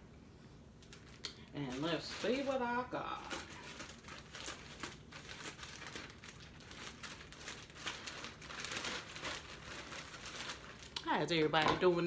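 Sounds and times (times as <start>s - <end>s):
packaging crinkling: 0.8s - 12.0s.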